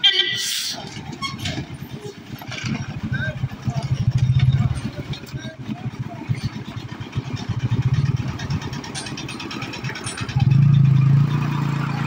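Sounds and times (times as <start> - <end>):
lorry diesel engine: 0.0 - 12.0
motorcycle engine idling: 1.6 - 11.3.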